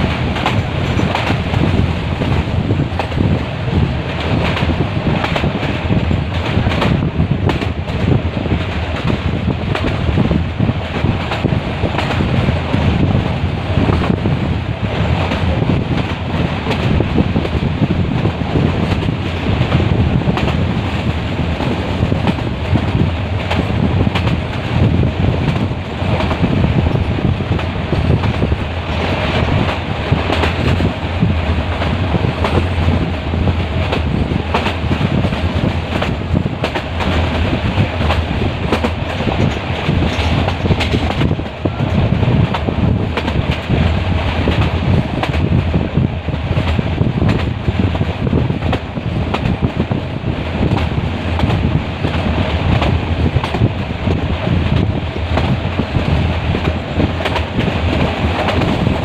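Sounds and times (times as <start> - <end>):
train wheels clattering: 0.0 - 50.0, 50.6 - 59.0
wind buffeting microphone: 0.0 - 59.0.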